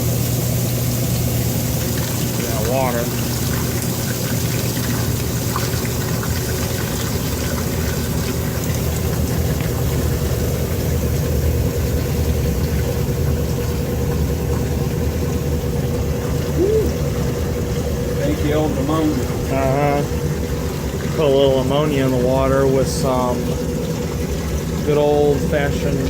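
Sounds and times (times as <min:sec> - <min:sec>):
washing machine motor drone: 0:00.0 - 0:26.0
water noise: 0:00.0 - 0:26.0.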